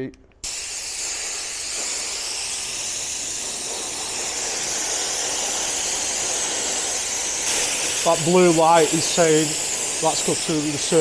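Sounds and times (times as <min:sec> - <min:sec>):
cold gas jet hissing: 0:00.4 - 0:11.0.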